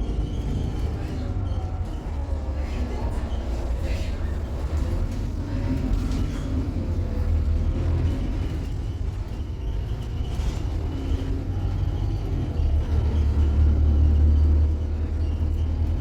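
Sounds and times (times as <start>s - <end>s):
bus engine rumble from inside: 0.0s - 16.0s.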